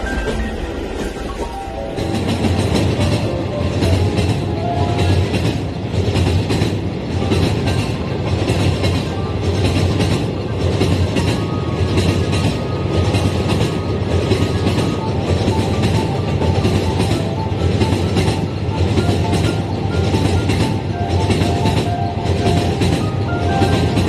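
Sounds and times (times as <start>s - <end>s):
wheels clacking over rail joints: 0.0s - 24.0s.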